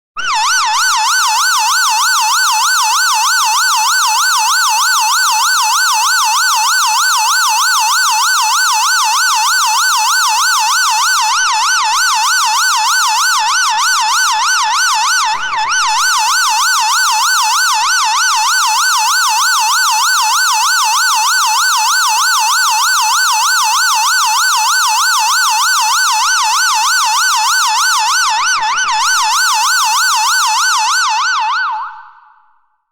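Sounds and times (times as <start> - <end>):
emergency siren yelping: 0.2 - 32.4.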